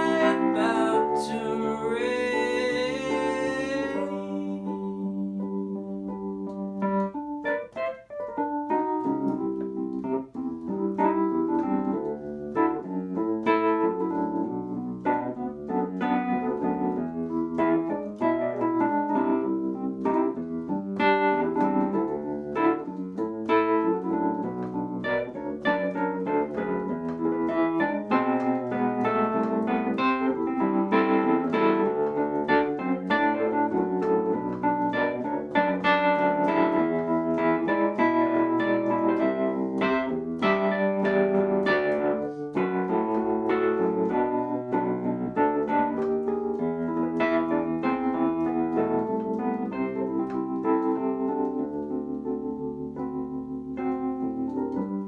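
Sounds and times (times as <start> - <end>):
electric piano playing: 0.0 - 55.0.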